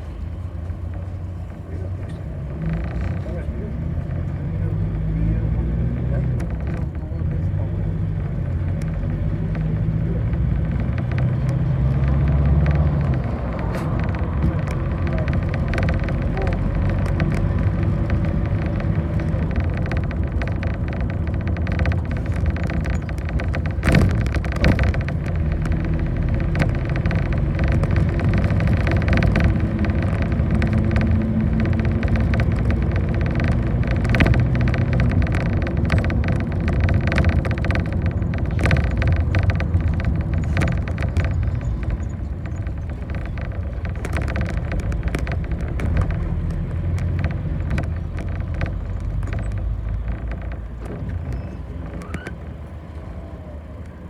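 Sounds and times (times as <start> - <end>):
bus engine running: 0.0 - 54.0
rattles and knocks: 0.0 - 54.0
road noise: 0.0 - 54.0.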